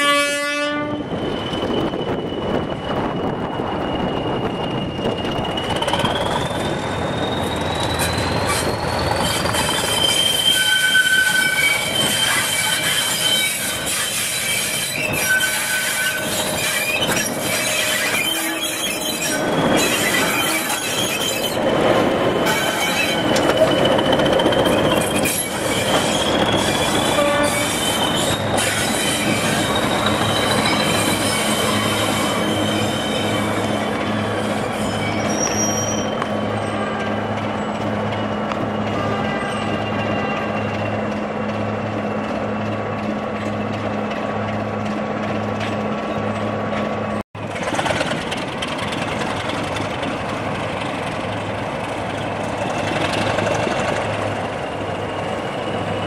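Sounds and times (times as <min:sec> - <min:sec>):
diesel locomotive running: 0:00.0 - 0:56.0.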